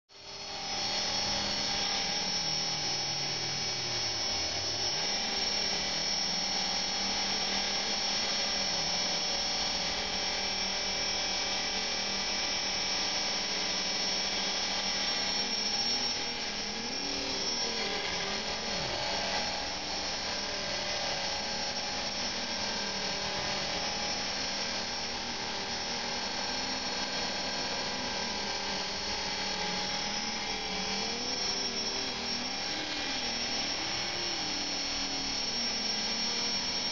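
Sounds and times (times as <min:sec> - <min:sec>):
rc helicopter motor whine: 0:00.1 - 0:36.9
rotor whirring: 0:00.3 - 0:36.9.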